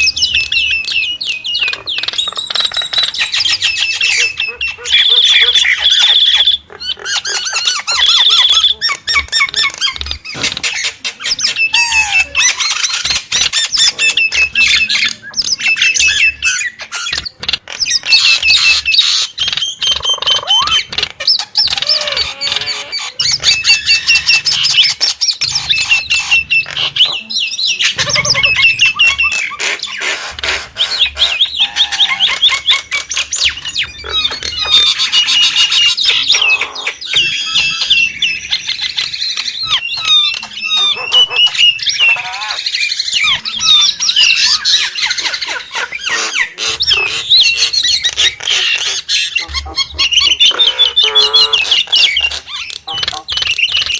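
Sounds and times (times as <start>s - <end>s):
myna whistling and squawking: 0.0s - 53.9s.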